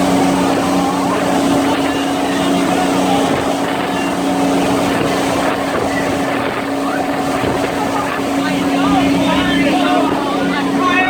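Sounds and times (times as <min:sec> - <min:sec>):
motorboat engine running: 0:00.0 - 0:11.0
rush of noise: 0:00.0 - 0:11.0.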